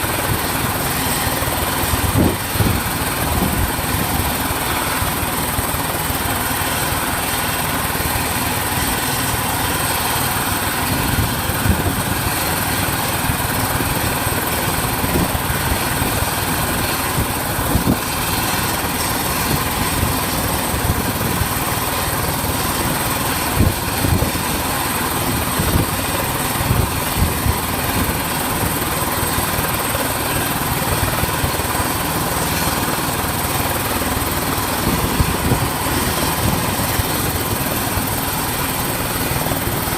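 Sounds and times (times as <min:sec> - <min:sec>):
helicopter engine whine: 0:00.0 - 0:39.9
helicopter rotor rush: 0:00.0 - 0:39.9.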